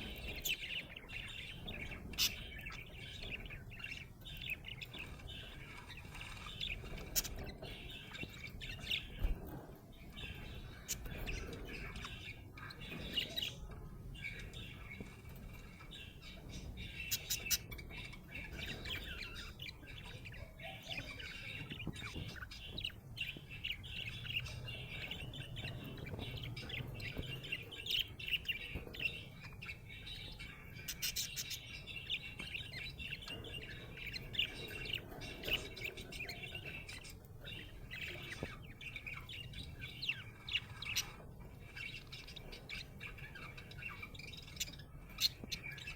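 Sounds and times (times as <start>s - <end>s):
budgerigar chattering and chirping: 0.0s - 9.3s, 10.2s - 45.9s.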